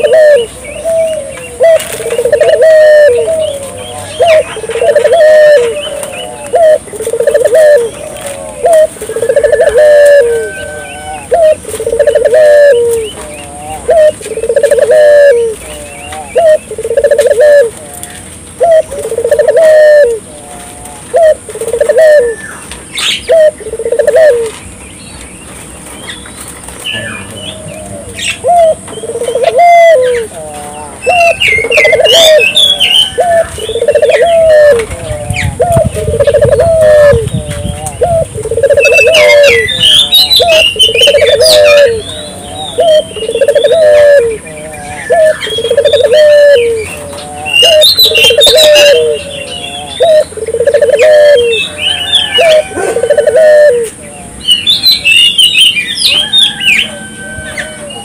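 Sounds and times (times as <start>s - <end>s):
dove cooing: 0.0s - 24.9s, 25.7s - 58.0s.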